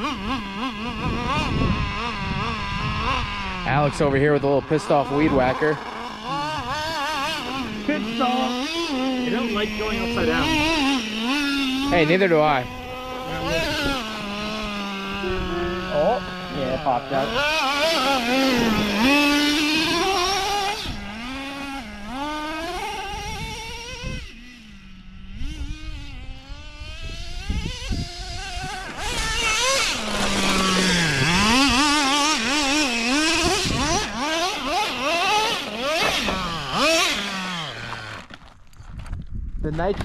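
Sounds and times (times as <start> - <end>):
nitro engines revving: 0.0 - 38.7.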